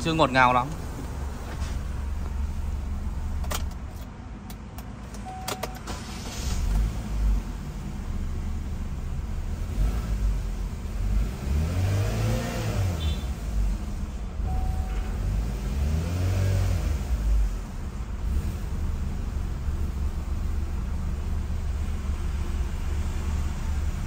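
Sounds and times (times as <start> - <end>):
car engine idling unevenly: 0.0 - 11.2, 13.0 - 15.5, 17.1 - 24.0.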